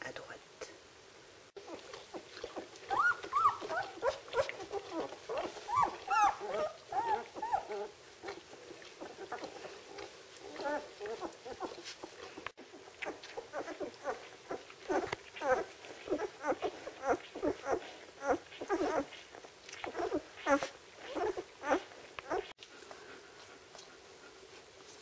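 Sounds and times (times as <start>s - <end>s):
puppies squeaking and whimpering: 1.6s - 22.6s.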